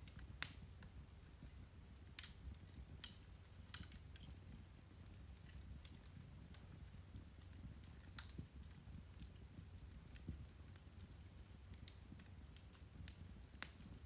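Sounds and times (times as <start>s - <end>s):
peat fire crackling: 0.0s - 14.0s
small pops and ticks: 0.0s - 14.0s.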